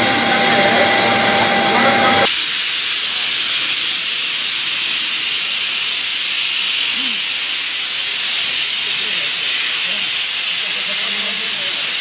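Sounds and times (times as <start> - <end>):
loud steady hiss: 0.1 - 12.0.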